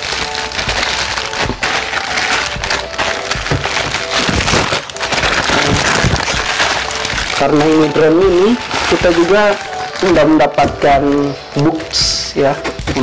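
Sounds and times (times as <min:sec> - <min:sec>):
plastic mailer rustling and ripping: 0:00.0 - 0:13.0.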